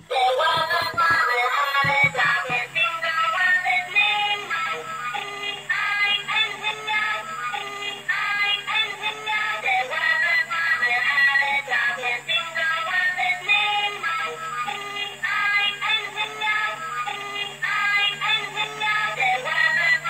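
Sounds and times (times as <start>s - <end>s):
steady low hum: 0.0s - 20.0s
synthesized voice singing: 0.0s - 20.0s
toy train electronic song: 0.0s - 20.0s.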